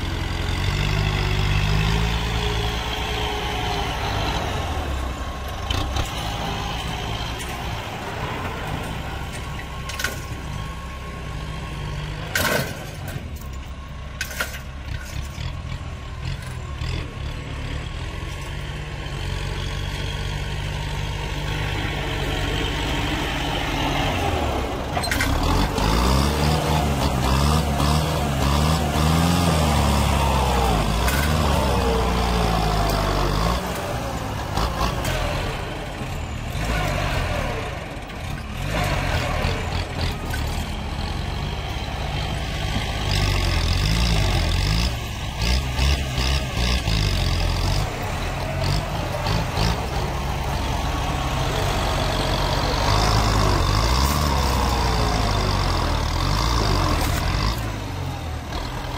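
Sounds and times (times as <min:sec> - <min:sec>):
tractor diesel engine revving: 0:00.0 - 0:58.9.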